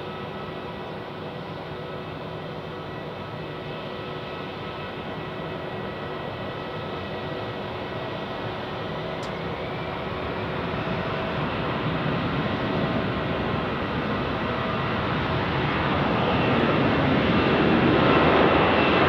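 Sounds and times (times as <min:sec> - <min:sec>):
airliner rumble with whine: 0:00.0 - 0:19.0.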